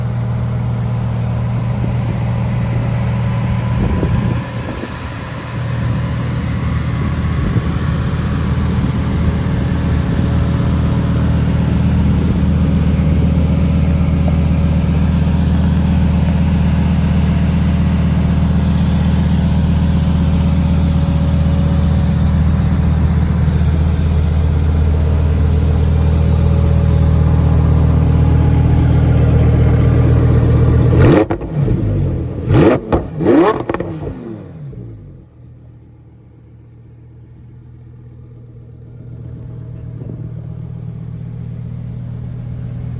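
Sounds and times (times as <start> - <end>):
sports car engine running: 0.0 - 42.9.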